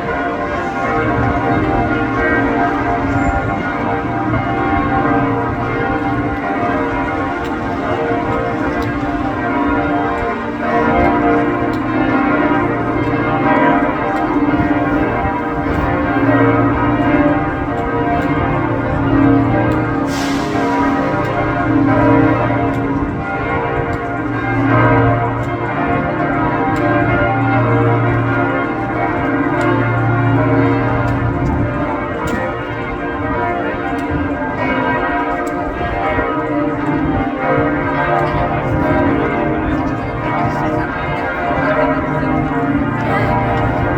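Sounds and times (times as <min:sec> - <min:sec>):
cathedral bells ringing: 0:00.0 - 0:43.9.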